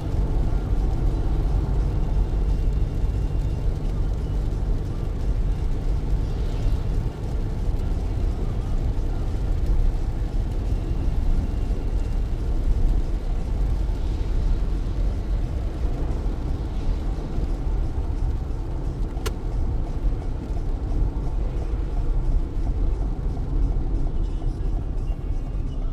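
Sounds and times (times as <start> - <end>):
rain hiss: 0.0 - 23.9
tyres rumbling on wet road: 0.0 - 25.9.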